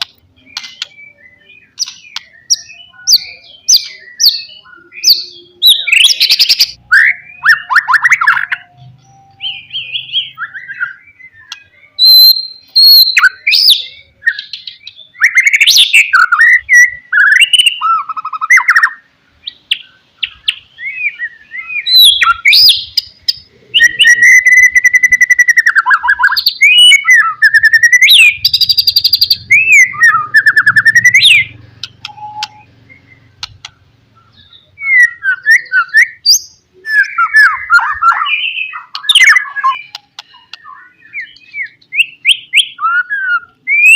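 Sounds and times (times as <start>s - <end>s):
songbird singing varied phrases: 0.0s - 43.9s.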